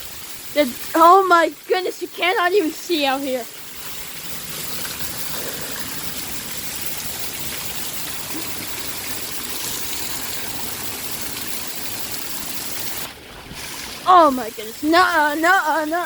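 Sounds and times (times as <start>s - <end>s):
heavy pouring rain: 0.0s - 16.0s.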